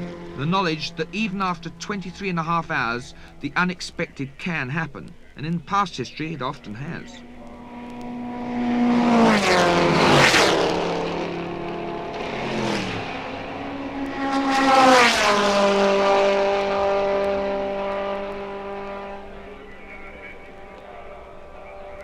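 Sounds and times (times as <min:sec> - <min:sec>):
racing cars passing at speed: 0:00.0 - 0:22.0.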